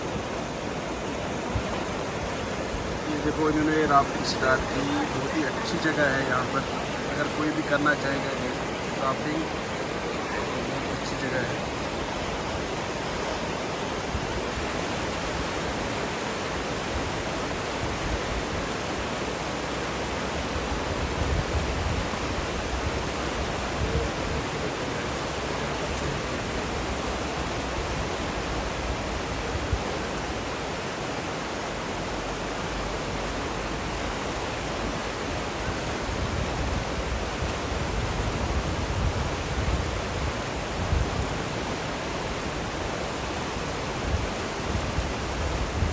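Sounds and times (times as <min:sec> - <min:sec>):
river rapids rushing: 0:00.0 - 0:45.9.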